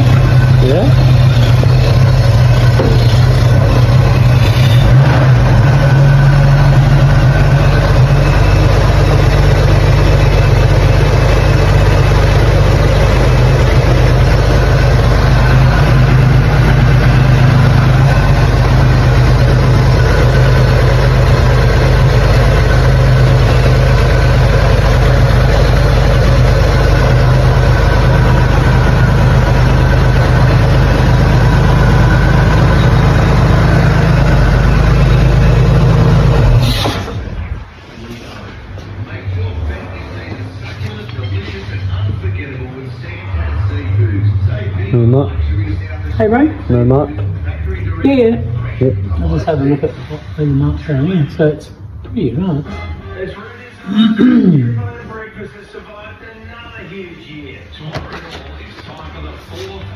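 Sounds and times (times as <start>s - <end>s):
car engine idling: 0.0s - 51.4s.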